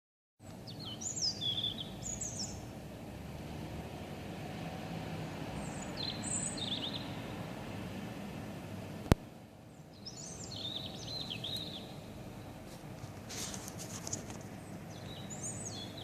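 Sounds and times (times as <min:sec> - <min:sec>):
songbird singing: 0:00.4 - 0:16.0.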